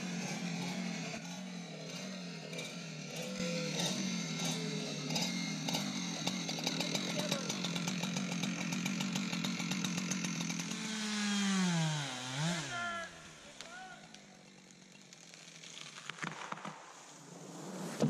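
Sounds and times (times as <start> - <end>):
chainsaw running: 0.0 - 16.7.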